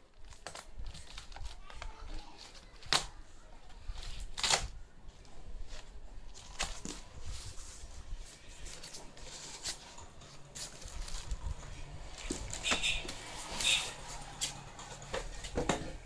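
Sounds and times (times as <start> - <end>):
cardboard and wrap rustling: 0.0 - 15.7.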